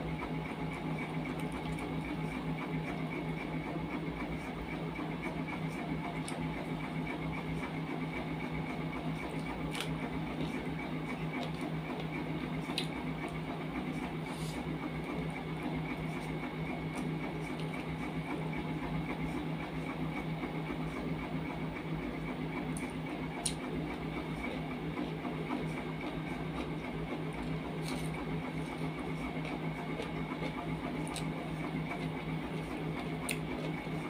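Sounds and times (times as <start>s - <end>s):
mechanical hum: 0.0s - 34.0s.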